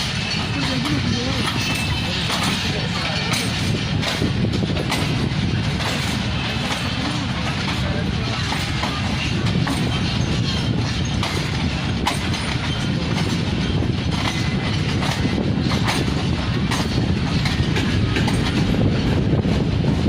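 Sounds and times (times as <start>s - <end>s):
train coaches rumbling: 0.0s - 20.0s
wheels clicking over rail joints: 0.0s - 20.0s.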